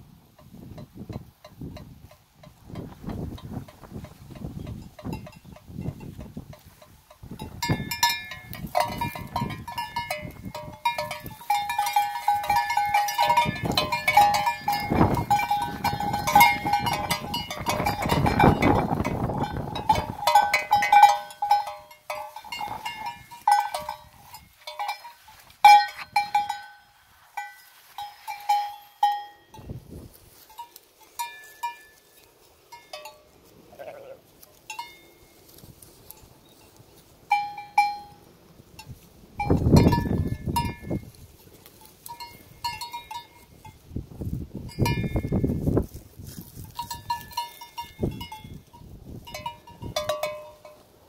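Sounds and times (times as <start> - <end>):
sheep bell clanking: 0.4 - 50.9.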